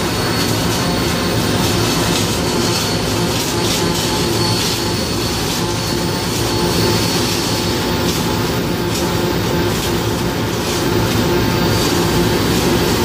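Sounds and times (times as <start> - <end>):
arc welding crackle: 0.0 - 13.0.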